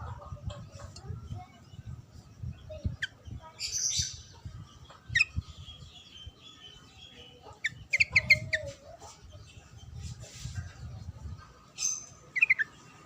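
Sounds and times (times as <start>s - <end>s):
bird chirping song: 0.0s - 13.0s.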